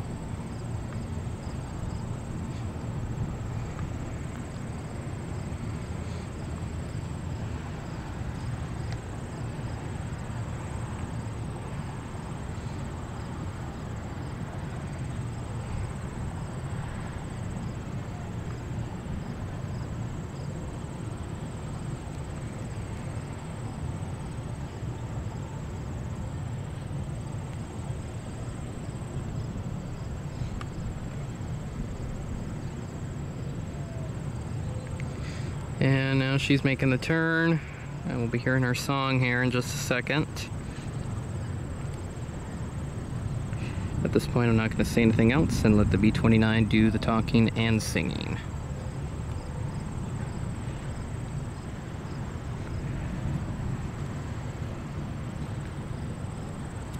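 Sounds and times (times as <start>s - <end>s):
distant aircraft engines rumbling: 0.0s - 56.9s
insects chirping: 0.0s - 56.9s.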